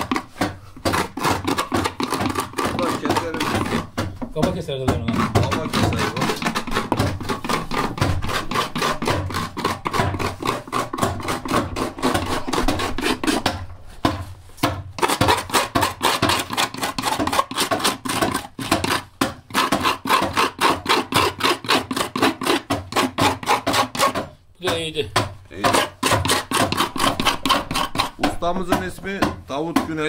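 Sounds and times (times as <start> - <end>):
adze chopping wood: 0.0 - 30.0.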